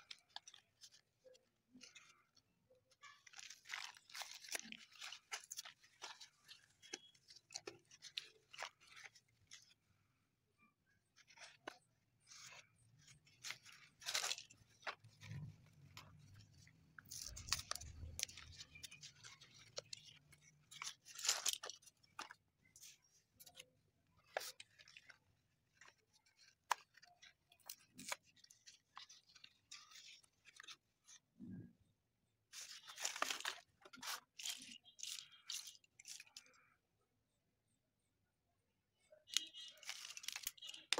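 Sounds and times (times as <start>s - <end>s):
paper crinkling: 0.0s - 31.5s, 32.4s - 36.8s, 39.2s - 40.9s.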